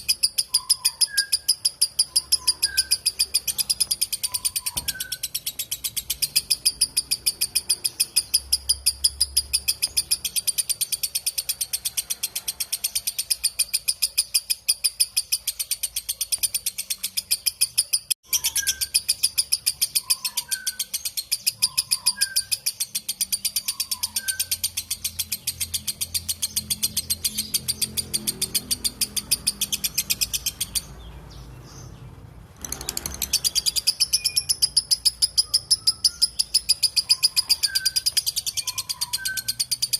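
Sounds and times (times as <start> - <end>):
lovebird shrill chirping chatter: 0.0 - 31.0, 32.6 - 39.9
softer lower bird chirps: 0.0 - 32.1, 32.7 - 39.9.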